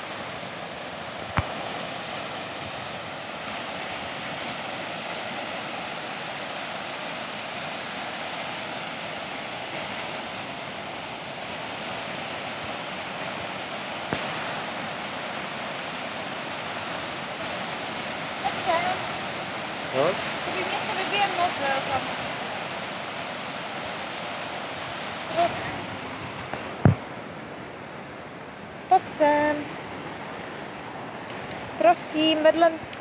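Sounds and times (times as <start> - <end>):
waves breaking on shore: 0.0 - 33.0.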